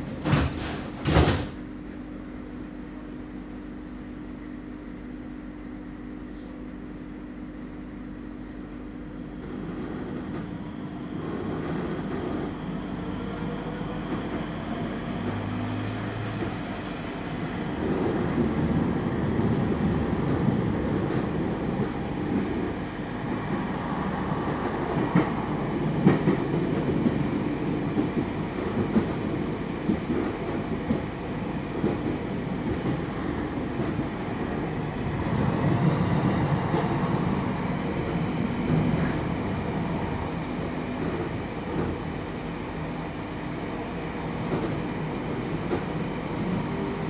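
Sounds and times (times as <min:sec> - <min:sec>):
tram wheels rumbling on rail: 0:00.0 - 0:47.0.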